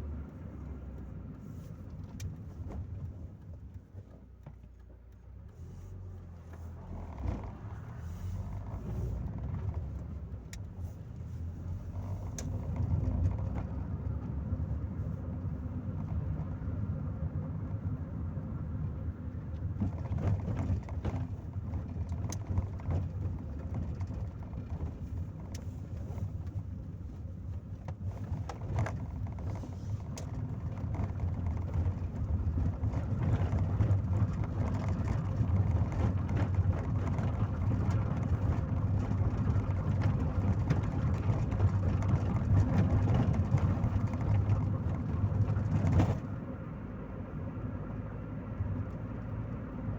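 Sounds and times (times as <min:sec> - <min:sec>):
car engine and road rumble: 0:00.0 - 0:49.9.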